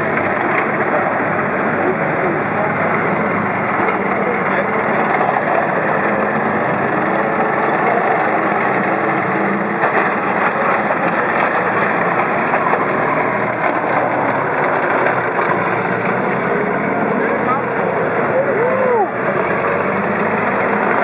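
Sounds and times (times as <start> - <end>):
heavy vehicle engine: 0.0 - 21.0
vehicle tracks clanking: 0.0 - 21.0.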